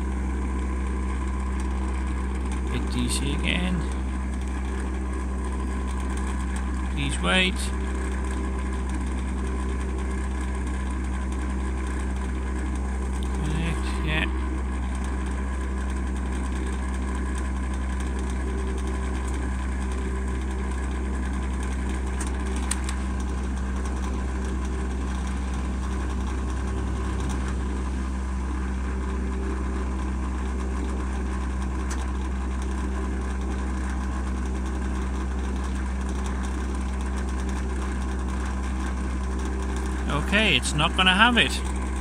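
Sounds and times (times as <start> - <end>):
charger electrical hum: 0.0 - 42.0.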